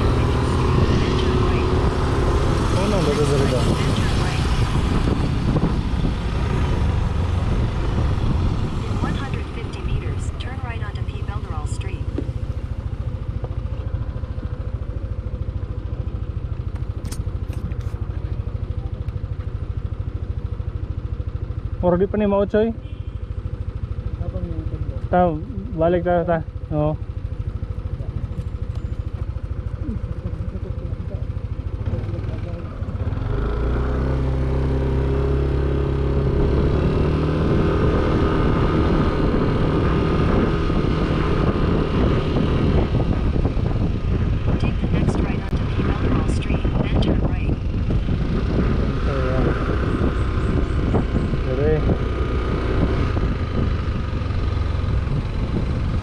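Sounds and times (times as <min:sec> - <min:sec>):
scooter engine running: 0:00.0 - 0:56.0
wind and road noise: 0:00.0 - 0:56.0.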